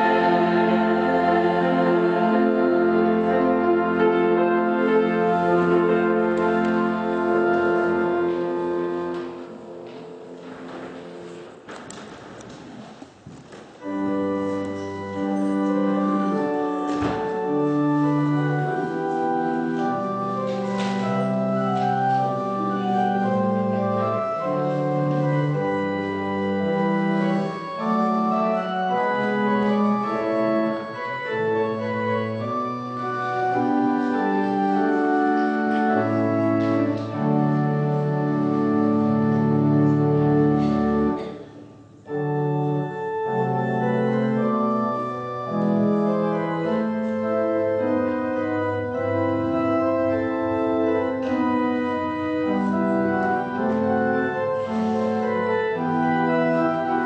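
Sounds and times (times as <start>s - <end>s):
organ playing sustained chords: 0.0s - 11.6s, 13.8s - 57.0s.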